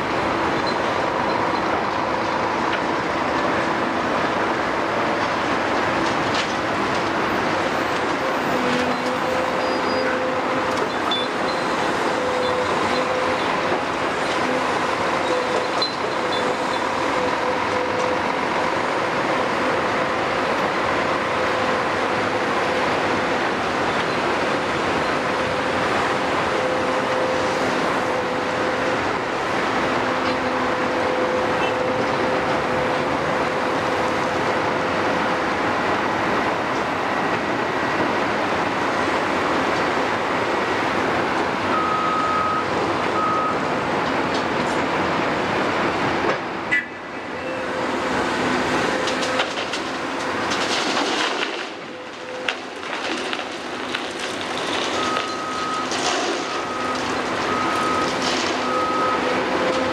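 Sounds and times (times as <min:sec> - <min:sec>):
excavator diesel engines running: 0:00.0 - 0:59.9
crusher working on concrete rubble: 0:00.1 - 0:46.5, 0:47.4 - 0:59.9.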